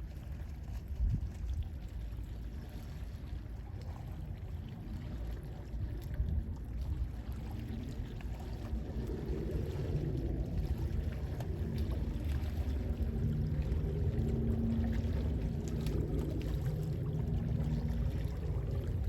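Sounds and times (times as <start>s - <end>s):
gentle sea waves washing: 0.0s - 19.0s
wind: 0.0s - 19.0s.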